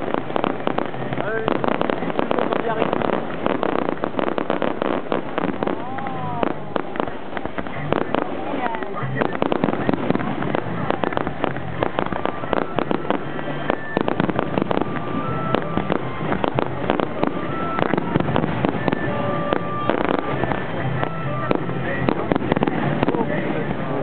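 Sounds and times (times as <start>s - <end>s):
fireworks bangs and crackles: 0.0s - 24.0s
fireworks whistling: 0.0s - 24.0s.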